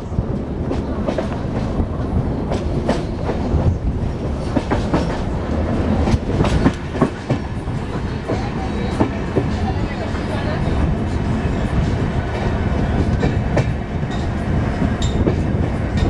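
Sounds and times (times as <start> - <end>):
train coaches rumbling: 0.0 - 16.0.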